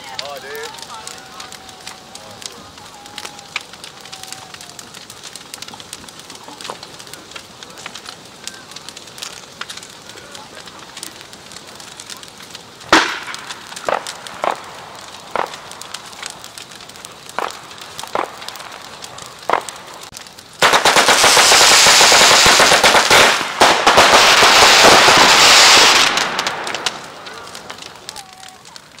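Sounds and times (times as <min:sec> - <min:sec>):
firecrackers banging: 0:00.0 - 0:29.0.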